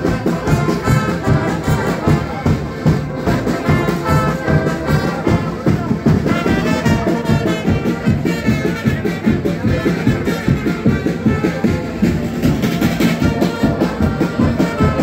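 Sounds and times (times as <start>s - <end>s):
bass drum beat: 0.0s - 15.0s
brass band playing dance tune: 0.0s - 15.0s.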